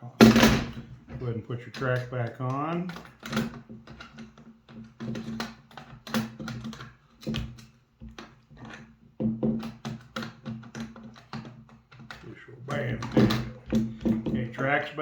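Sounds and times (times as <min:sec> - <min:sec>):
metal parts clicking and rattling: 0:00.2 - 0:14.7.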